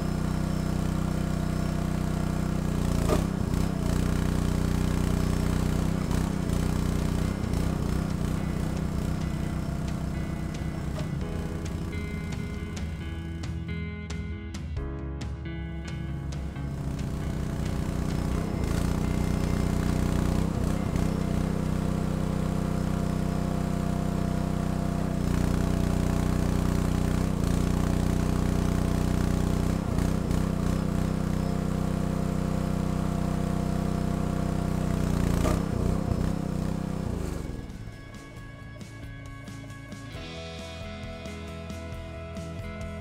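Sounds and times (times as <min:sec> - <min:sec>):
log splitter engine running: 0:00.0 - 0:43.0.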